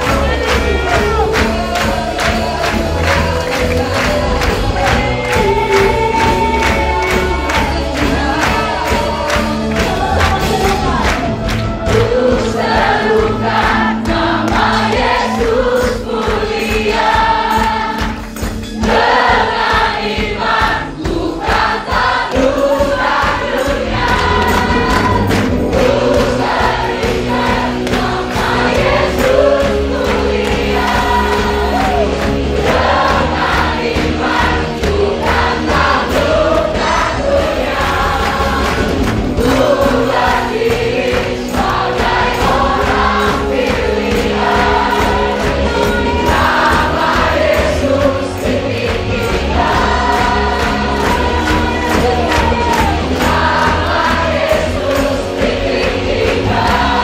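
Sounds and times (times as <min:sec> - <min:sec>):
group singing praise song: 0:00.0 - 0:57.0
live band with steady beat: 0:00.0 - 0:57.0.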